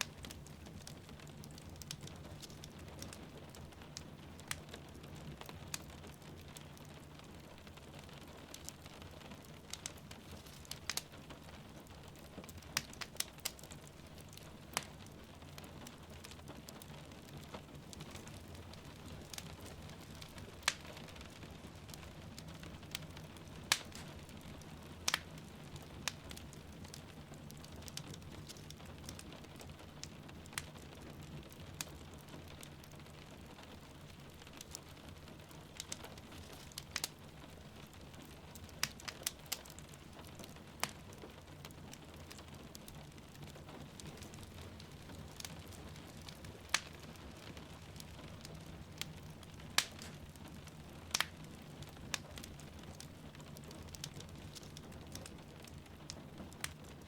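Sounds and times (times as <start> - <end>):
rain falling: 0.0 - 57.0
wood fire crackling and popping: 0.0 - 57.0.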